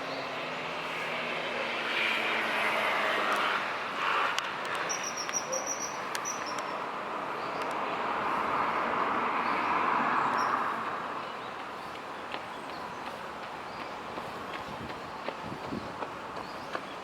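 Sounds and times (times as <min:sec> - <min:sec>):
passing vehicle road noise: 0:00.0 - 0:17.0.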